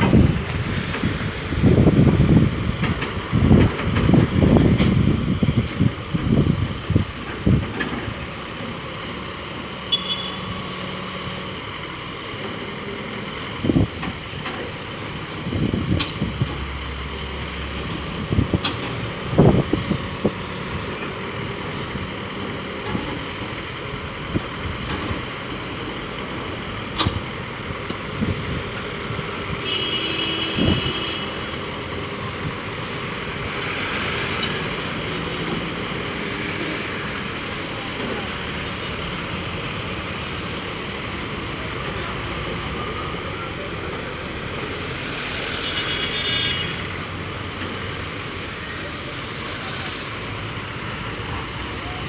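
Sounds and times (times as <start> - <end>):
heavy diesel machinery: 0.0 - 52.0
traffic: 0.0 - 52.0.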